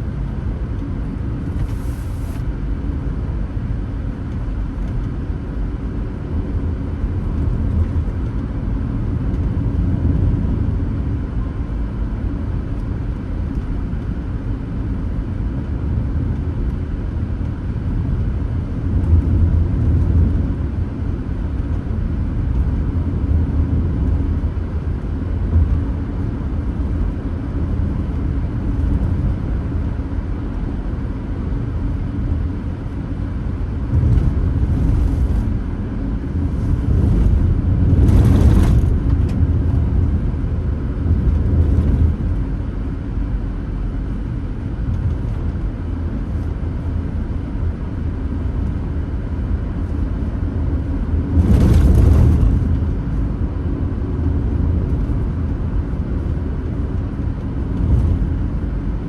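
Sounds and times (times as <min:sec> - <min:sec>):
car driving rumble: 0:00.0 - 0:14.9, 0:17.8 - 0:59.0.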